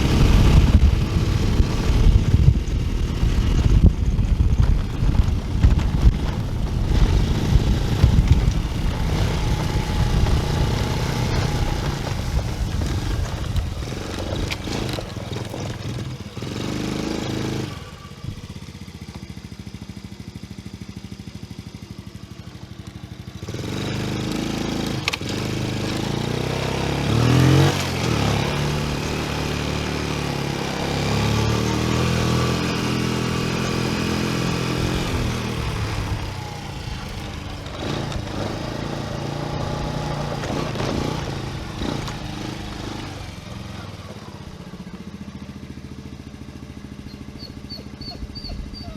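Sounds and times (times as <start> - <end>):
quad engine revving: 0.0 - 48.9.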